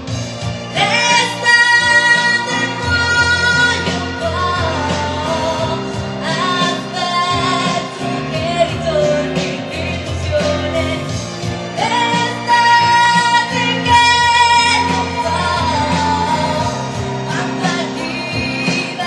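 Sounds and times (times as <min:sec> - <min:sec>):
amplified backing music: 0:00.0 - 0:19.0
woman singing into microphone: 0:00.6 - 0:19.0.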